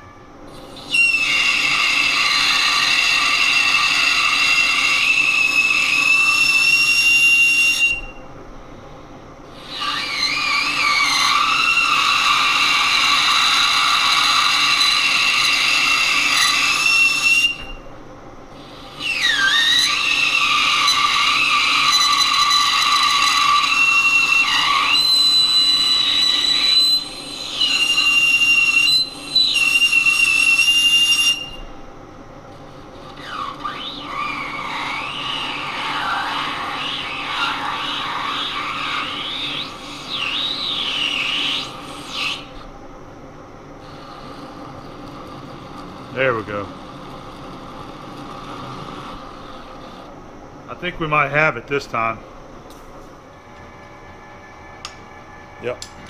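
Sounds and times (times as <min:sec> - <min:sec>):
lathe tool screeching on steel: 0:00.6 - 0:08.2, 0:09.5 - 0:17.8, 0:18.6 - 0:31.6, 0:32.9 - 0:42.7, 0:43.8 - 0:50.1, 0:53.5 - 0:56.0.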